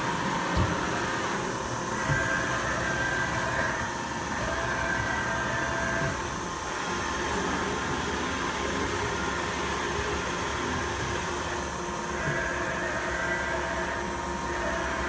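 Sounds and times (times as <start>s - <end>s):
machining center humming: 0.0s - 15.0s
whining machine tones: 0.0s - 15.0s.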